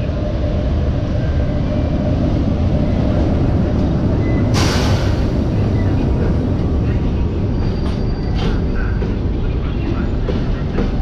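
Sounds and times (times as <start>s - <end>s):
locomotive rumbling on rails: 0.0s - 11.0s.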